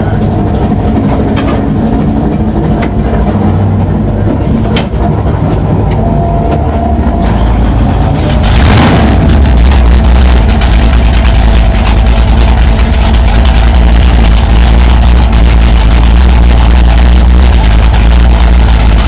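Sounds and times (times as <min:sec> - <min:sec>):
race car engine idling loudly: 0:00.0 - 0:19.0.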